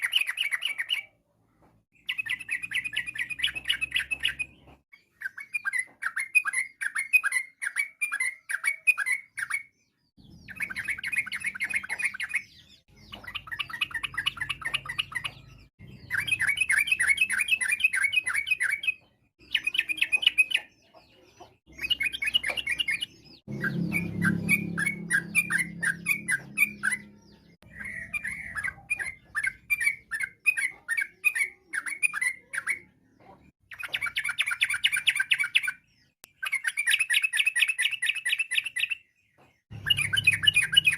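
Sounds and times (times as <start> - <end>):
bulbul rapid chattering song: 0.0 - 1.2, 2.0 - 39.0, 39.7 - 40.9.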